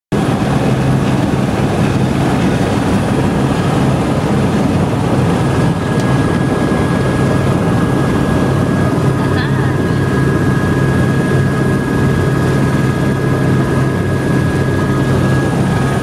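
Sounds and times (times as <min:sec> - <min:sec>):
helicopter drone from inside cabin: 0:00.1 - 0:16.0
helicopter lifting off: 0:00.1 - 0:16.0.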